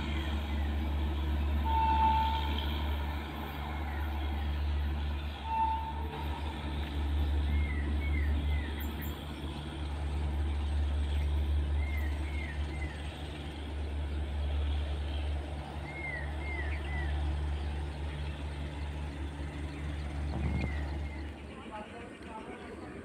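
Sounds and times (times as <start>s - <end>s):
distant electric train rumbling: 0.0s - 23.0s.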